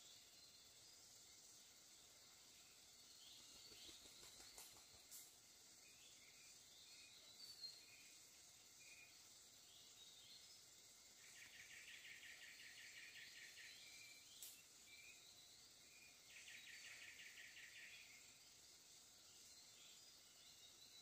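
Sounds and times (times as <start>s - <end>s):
insects hissing: 0.0s - 21.0s.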